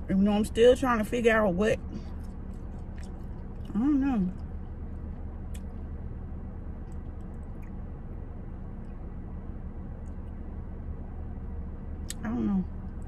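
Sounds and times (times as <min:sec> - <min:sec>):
low hum inside car cabin: 0:00.0 - 0:13.0.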